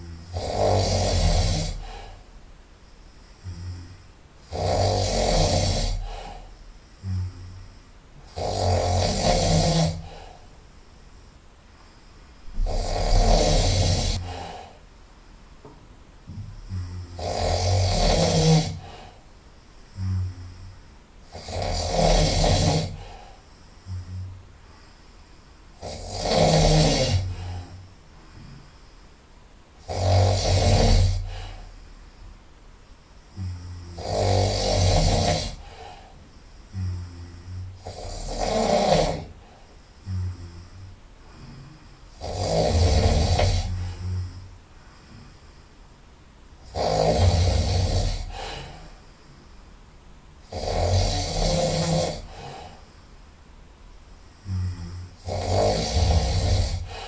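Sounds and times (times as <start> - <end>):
person snoring through the nose: 0.0 - 2.4, 3.0 - 10.6, 12.0 - 14.9, 16.3 - 29.0, 29.8 - 32.3, 33.3 - 45.7, 46.6 - 49.5, 50.4 - 53.1, 54.3 - 57.0
faint breath sound: 0.0 - 50.2, 51.1 - 57.0.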